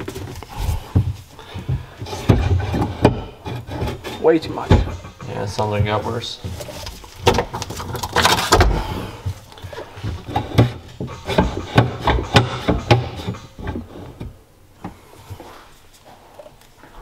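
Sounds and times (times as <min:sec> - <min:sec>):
metal knocks and clunks: 0:00.0 - 0:15.0.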